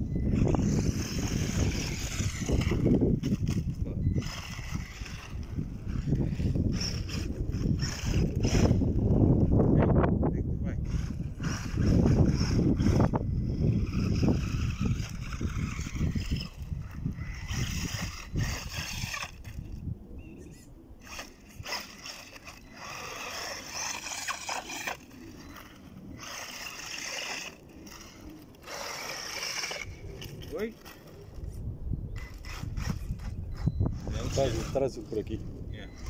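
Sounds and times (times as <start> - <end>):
electric motor and gearbox whining: 0.0 - 36.0.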